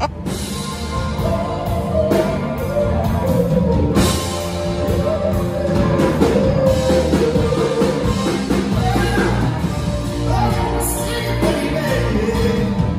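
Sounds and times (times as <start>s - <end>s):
drum kit: 0.0s - 12.9s
electric bass: 0.0s - 12.9s
electric guitar: 0.0s - 12.9s.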